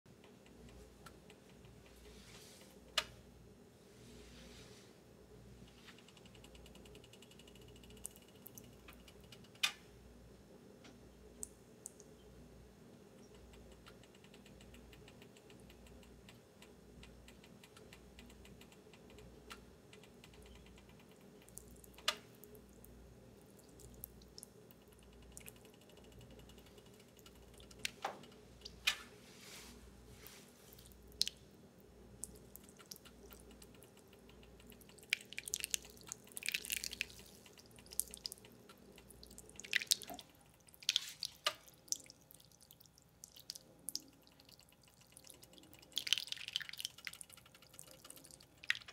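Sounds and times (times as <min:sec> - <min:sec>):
faint low hum: 0:00.1 - 0:48.9.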